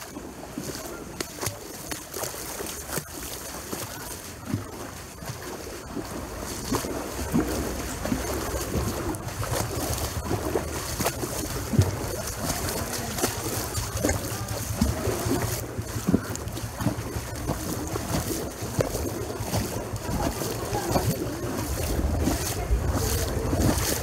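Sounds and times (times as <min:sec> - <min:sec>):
water sloshing and splashing: 0:00.0 - 0:24.0
wind rumble on microphone: 0:03.9 - 0:24.0.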